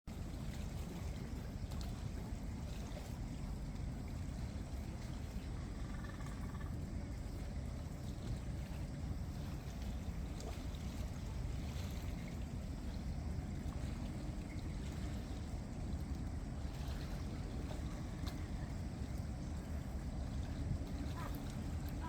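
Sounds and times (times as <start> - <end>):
water trickling and dripping: 0.1 - 22.0.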